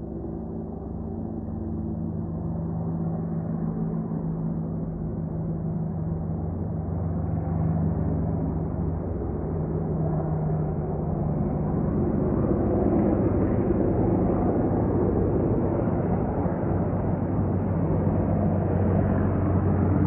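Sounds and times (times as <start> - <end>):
helicopter rotor and engine rumble: 0.0 - 20.0.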